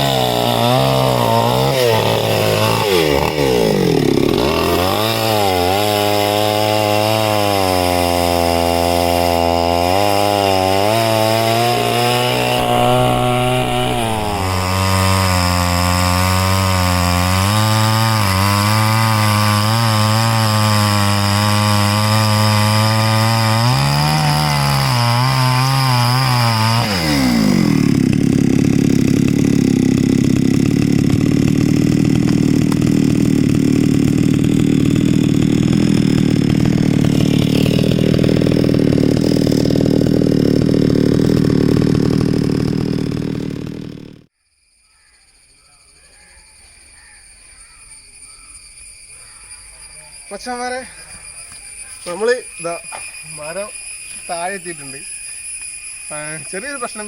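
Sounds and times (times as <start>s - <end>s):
chainsaw cutting wood: 0.0s - 44.3s, 51.5s - 57.0s.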